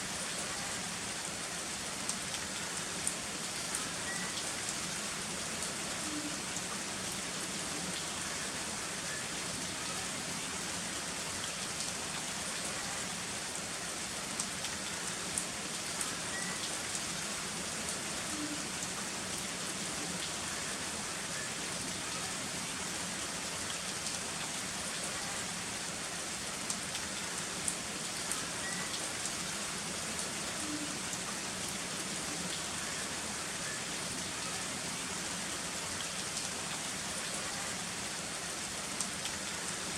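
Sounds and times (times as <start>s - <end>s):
heavy rain falling: 0.0s - 39.9s
raindrops ticking on a surface: 0.0s - 39.9s.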